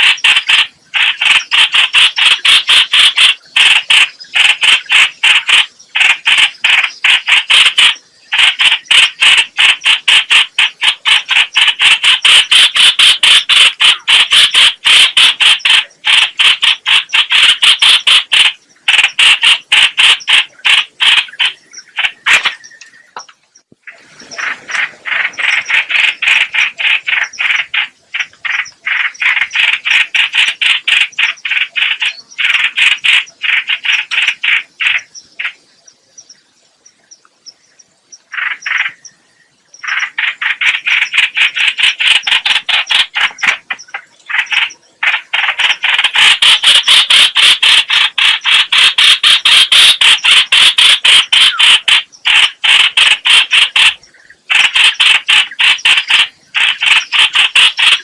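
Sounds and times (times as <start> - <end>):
bird harsh rapid chattering: 0.0 - 23.3, 24.2 - 35.6, 38.3 - 39.1, 39.8 - 58.0.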